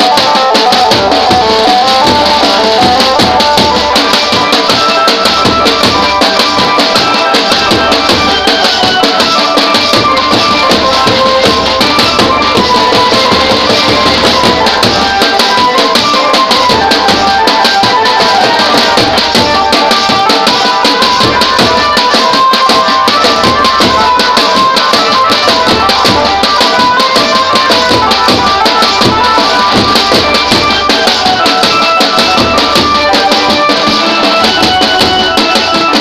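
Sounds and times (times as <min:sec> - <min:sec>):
banjo melody: 0:00.0 - 0:36.0
fast drumming: 0:00.0 - 0:36.0.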